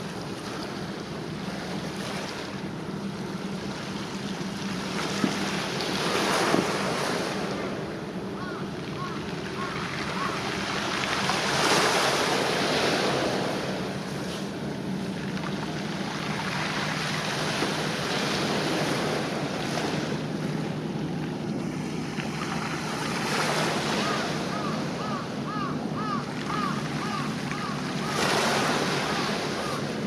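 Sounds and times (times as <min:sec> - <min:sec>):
small waves washing on shore: 0:00.0 - 0:30.0.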